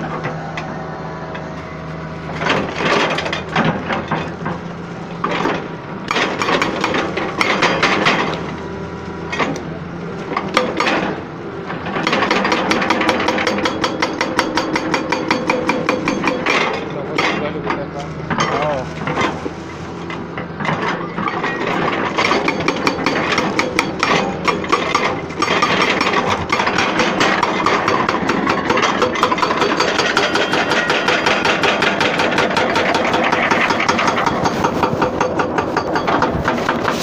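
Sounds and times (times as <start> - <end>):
excavator diesel engine knocking: 2.3 - 8.4, 9.2 - 19.1, 20.1 - 37.0.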